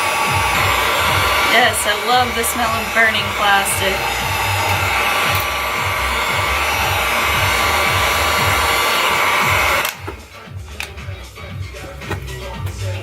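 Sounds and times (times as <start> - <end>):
heat gun blowing: 0.0 - 10.5
background music beat: 0.0 - 13.0.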